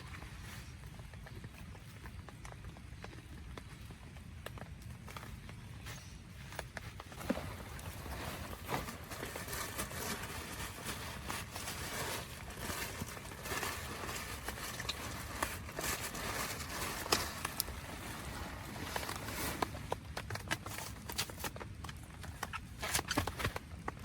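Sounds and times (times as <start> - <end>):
rain on a tent: 0.0 - 24.0.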